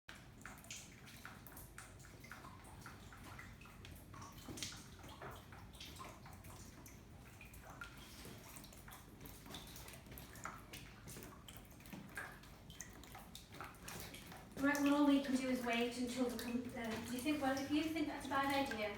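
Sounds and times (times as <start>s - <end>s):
running water: 0.1s - 18.9s
water dripping and splashing: 0.1s - 18.9s.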